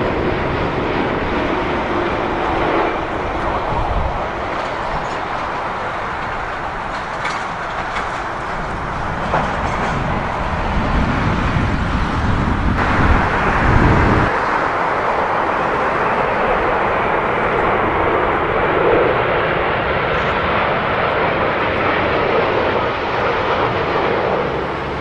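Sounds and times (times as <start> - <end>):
jet airliner engines rushing: 0.0 - 25.0
wind buffeting microphone: 0.0 - 25.0.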